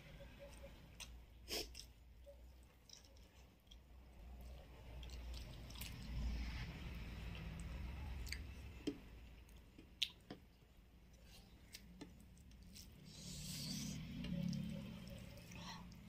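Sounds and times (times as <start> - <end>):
chewing and wet mouth sounds: 0.4 - 16.0.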